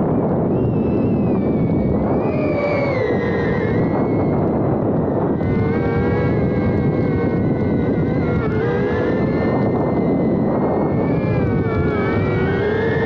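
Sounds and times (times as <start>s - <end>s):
drone motors whining: 0.0s - 13.0s
wind noise on microphone: 0.0s - 13.0s.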